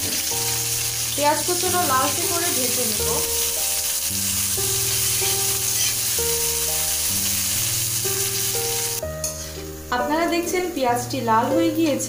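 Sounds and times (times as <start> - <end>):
background music: 0.0 - 12.0
onions sizzling in oil: 0.0 - 12.0.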